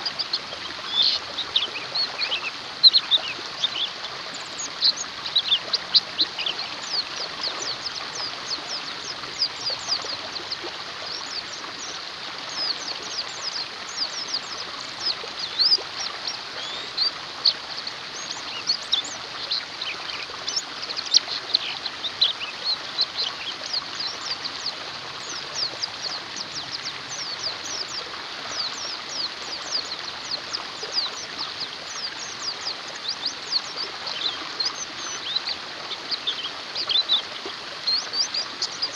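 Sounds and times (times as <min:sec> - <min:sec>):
birds chirping and trilling: 0:00.0 - 0:38.9
flowing water rushing: 0:00.0 - 0:38.9.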